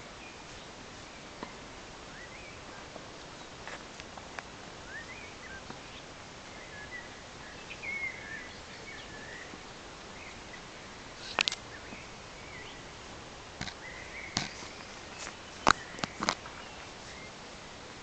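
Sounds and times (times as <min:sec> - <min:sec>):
birds chirping: 0:00.0 - 0:18.0
outdoor background hiss: 0:00.0 - 0:18.0.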